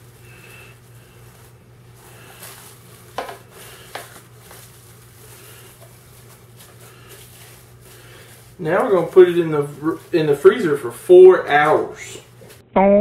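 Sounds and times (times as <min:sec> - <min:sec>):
cling wrap crinkling: 0:00.0 - 0:12.6.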